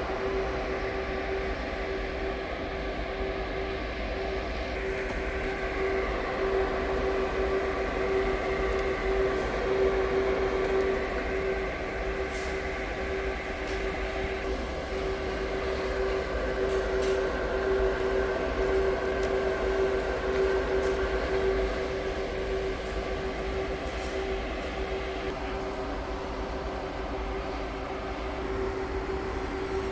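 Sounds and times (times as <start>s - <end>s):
machine droning: 0.0s - 29.9s.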